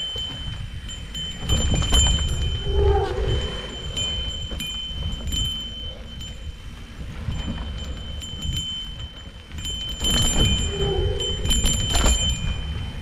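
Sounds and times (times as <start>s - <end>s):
bike tyres rumbling on dirt: 0.0s - 13.0s
metallic jingle and clicks: 0.0s - 13.0s.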